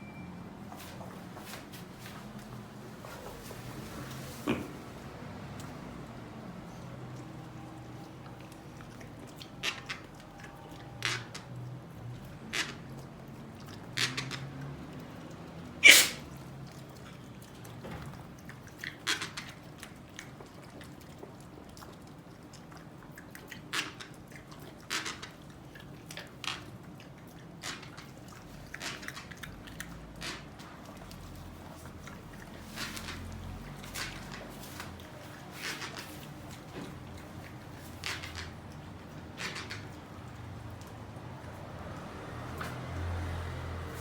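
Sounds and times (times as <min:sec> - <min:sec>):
pig snuffling: 0:00.6 - 0:44.0.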